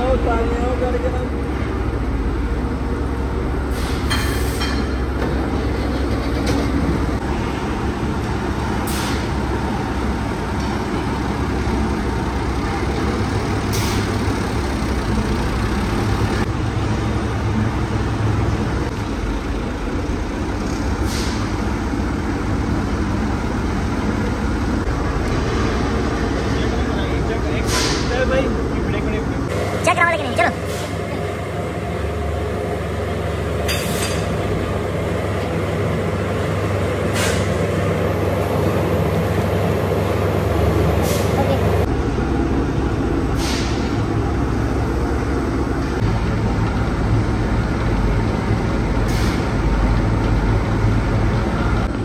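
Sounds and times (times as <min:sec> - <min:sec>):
factory machinery humming: 0:00.0 - 0:52.0.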